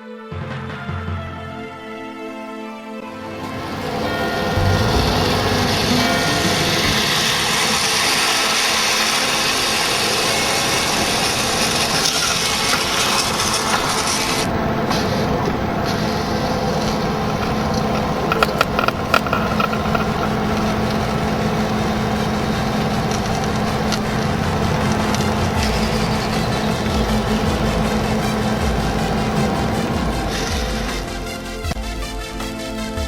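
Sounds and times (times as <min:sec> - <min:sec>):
drilling rig scraping: 0:03.3 - 0:31.8
upper hiss: 0:03.8 - 0:31.5.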